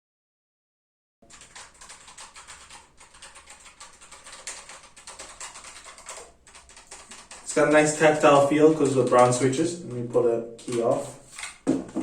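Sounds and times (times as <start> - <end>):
mechanical keyboard typing: 1.3 - 9.9, 10.6 - 11.6.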